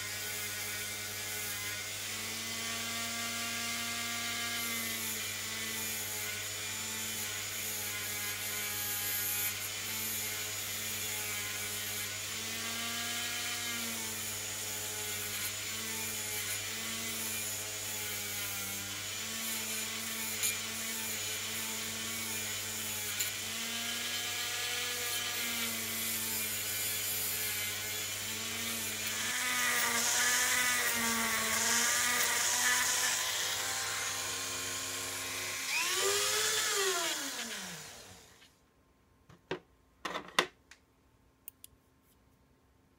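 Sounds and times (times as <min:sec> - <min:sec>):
rotary tool whining: 0:00.2 - 0:38.5
blade grinding: 0:03.5 - 0:38.5.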